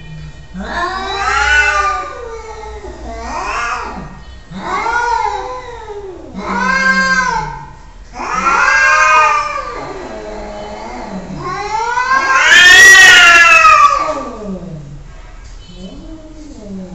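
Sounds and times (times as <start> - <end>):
cat meowing: 0.5 - 14.8.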